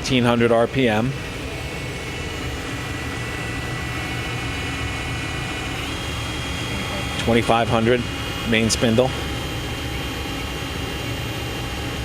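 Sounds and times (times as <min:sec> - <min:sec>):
high whine: 0:00.0 - 0:12.0
lathe machine hum: 0:00.0 - 0:12.0.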